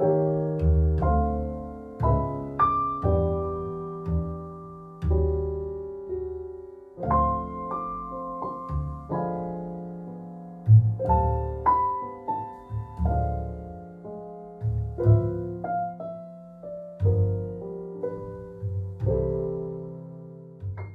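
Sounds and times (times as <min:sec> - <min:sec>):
piano chords and notes: 0:00.0 - 0:20.9.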